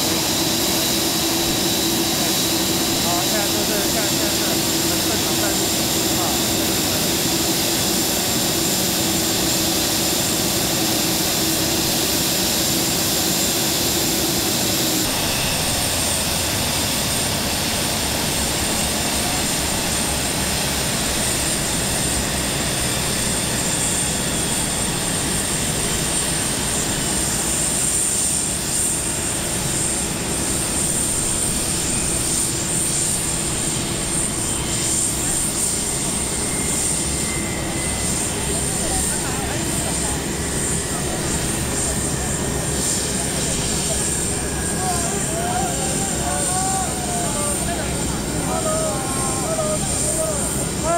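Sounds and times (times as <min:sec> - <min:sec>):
jet aircraft whine and rumble: 0:00.0 - 0:50.9.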